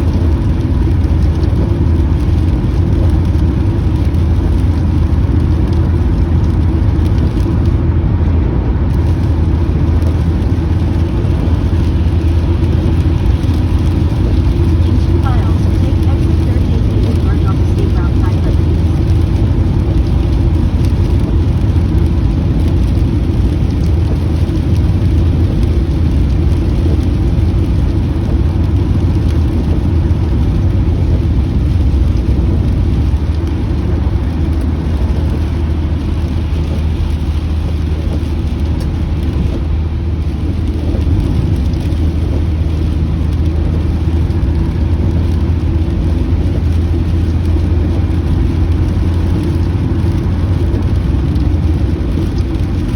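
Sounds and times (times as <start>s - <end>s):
car road and engine rumble: 0.0s - 52.9s
rain hissing on car: 0.0s - 52.9s.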